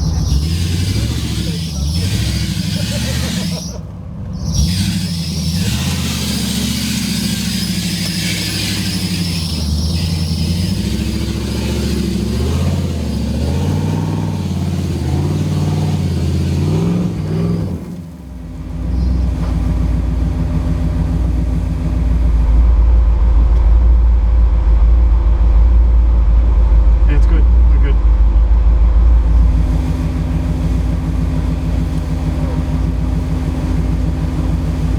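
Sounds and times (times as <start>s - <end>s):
truck engine revving: 0.0s - 22.7s, 29.2s - 34.9s
deep steady rumble: 0.0s - 34.9s.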